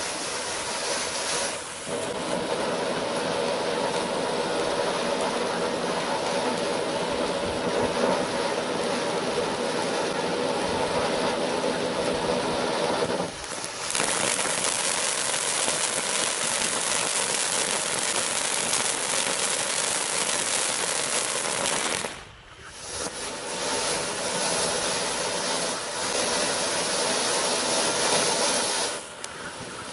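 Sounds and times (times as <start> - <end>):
firework fountain hissing: 0.0 - 29.9.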